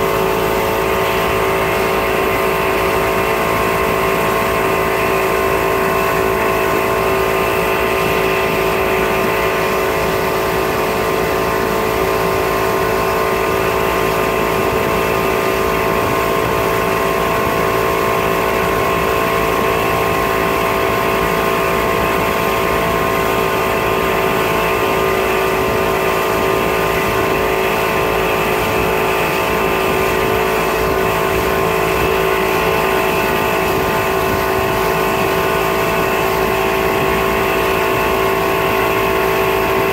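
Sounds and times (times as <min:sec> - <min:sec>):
churning wake water: 0:00.0 - 0:39.9
outboard motor running: 0:00.0 - 0:39.9.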